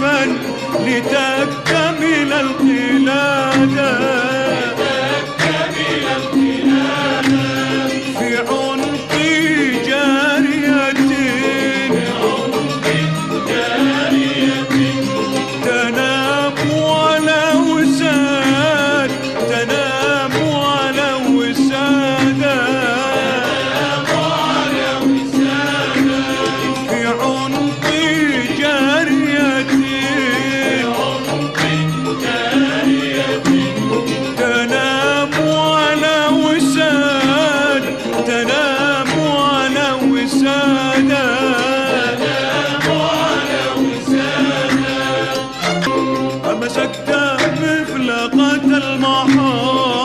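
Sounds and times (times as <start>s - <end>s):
person singing: 0.0s - 50.0s.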